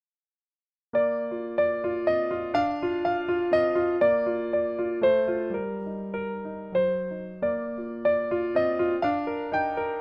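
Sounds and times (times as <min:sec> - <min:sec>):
gentle keyboard melody: 0:01.0 - 0:10.0.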